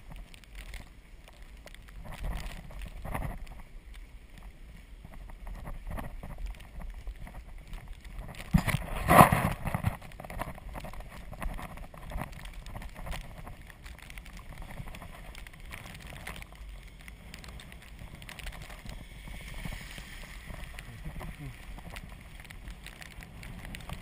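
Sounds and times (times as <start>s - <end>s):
small clicks and rattles: 0.0s - 24.0s
wind rumble on microphone: 0.0s - 24.0s
tyres crunching through snow: 4.2s - 24.0s.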